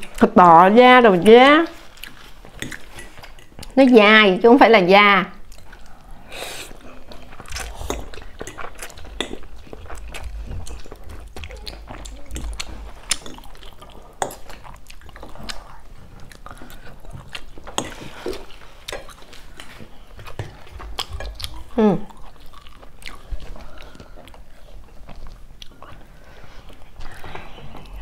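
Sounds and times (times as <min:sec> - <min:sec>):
spaghetti slurping and chewing: 0:05.5 - 0:28.0.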